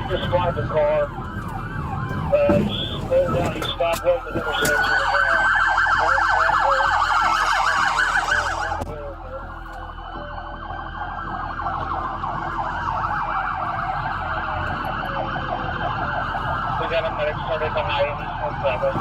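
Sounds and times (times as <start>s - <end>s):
police siren wail: 0.0s - 19.0s
police siren yelp: 0.0s - 19.0s.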